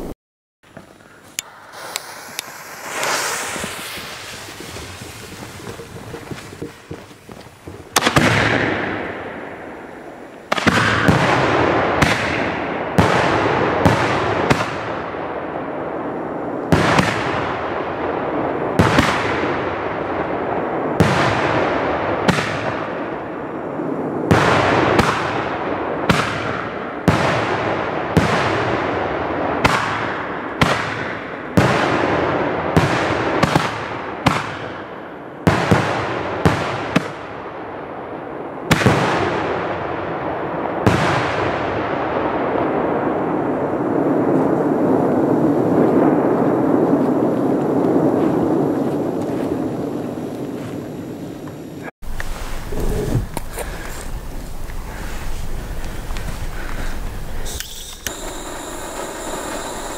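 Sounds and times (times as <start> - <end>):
firework bangs with hiss: 1.2 - 59.9.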